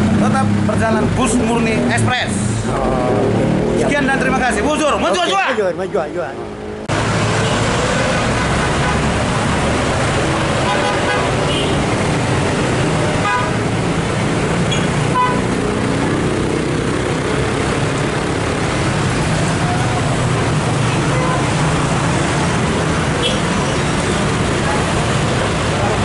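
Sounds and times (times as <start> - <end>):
motorcycle and car engines passing: 0.0 - 26.0.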